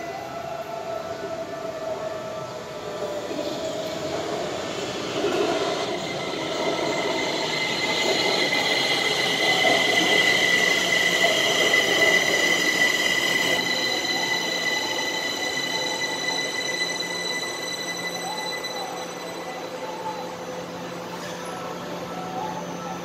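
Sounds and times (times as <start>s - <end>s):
high train squeal: 0.0s - 23.0s.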